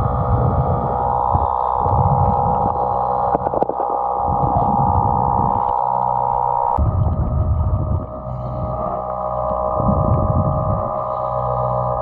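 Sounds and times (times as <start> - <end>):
motor hum underwater: 0.0 - 12.0.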